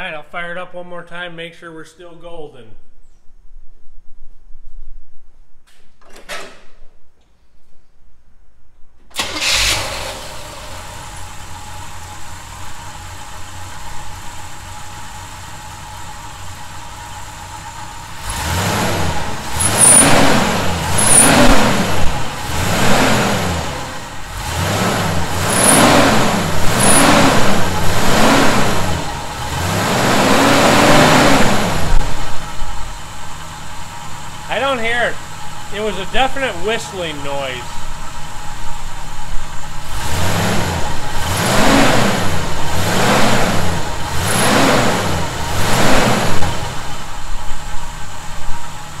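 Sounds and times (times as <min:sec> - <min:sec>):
pickup engine starting and revving: 0:09.1 - 0:49.0.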